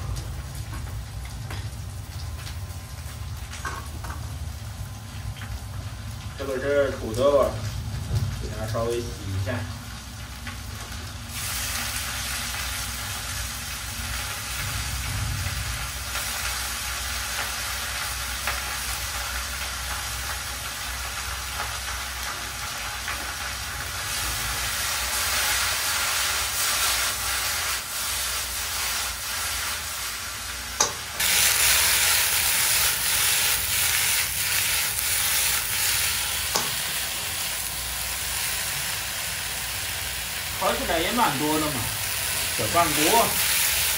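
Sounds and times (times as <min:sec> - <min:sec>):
food sizzling in oil: 0:00.0 - 0:43.9.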